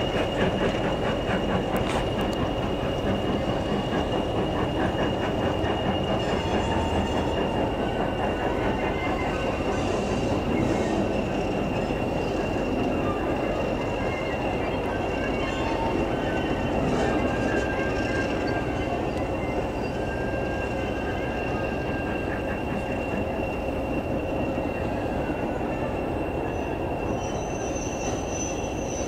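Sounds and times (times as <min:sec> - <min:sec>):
train coaches rumbling on rails: 0:00.0 - 0:29.0
wheel flange squeal: 0:00.0 - 0:29.0.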